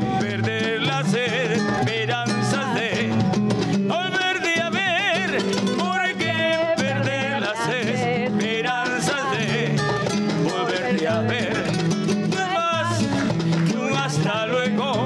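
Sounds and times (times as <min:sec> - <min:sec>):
person singing: 0:00.0 - 0:15.0
upbeat latin dance music: 0:00.0 - 0:15.0.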